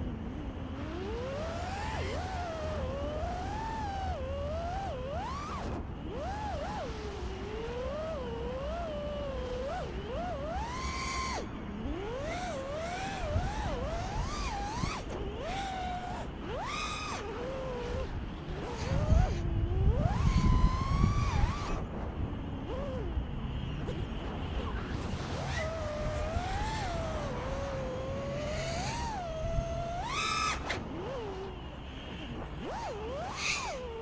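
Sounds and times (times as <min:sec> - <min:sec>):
drone motors whining: 0:00.0 - 0:34.0
wind on microphone: 0:00.8 - 0:34.0.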